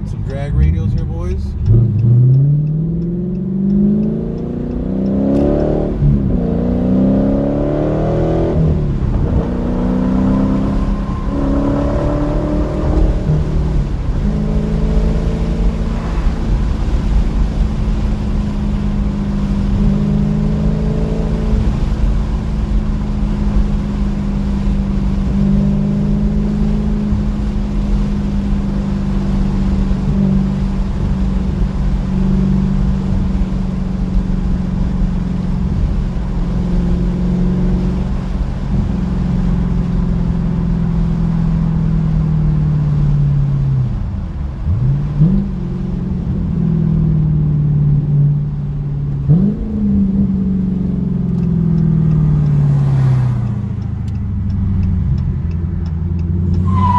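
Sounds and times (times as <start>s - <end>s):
loud car exhaust running: 0.0s - 56.9s.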